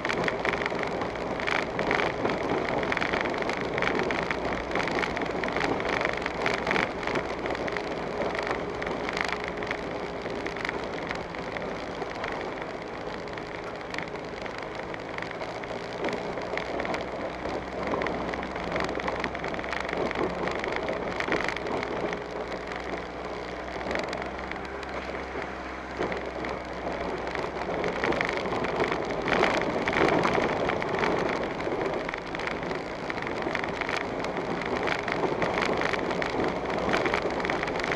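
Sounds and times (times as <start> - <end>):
low engine note: 0.0 - 37.9.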